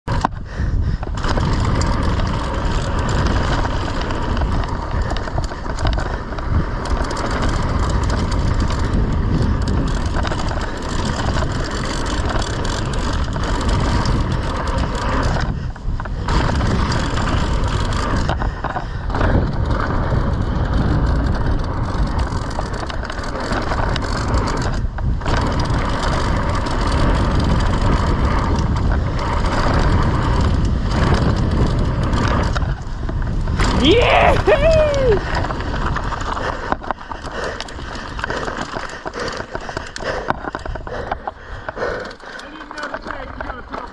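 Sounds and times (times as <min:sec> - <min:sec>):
tyres rolling on packed dirt: 0:00.1 - 0:43.9
wind buffeting microphone: 0:00.1 - 0:43.9.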